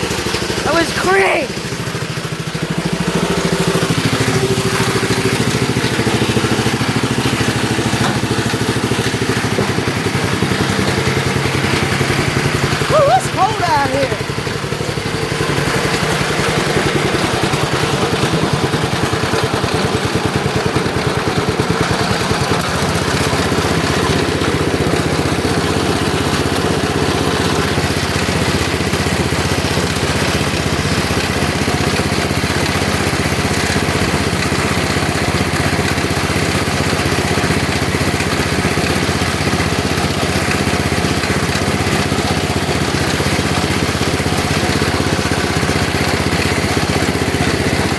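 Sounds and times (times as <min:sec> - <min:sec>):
lawn tractor engine running: 0:00.0 - 0:47.9.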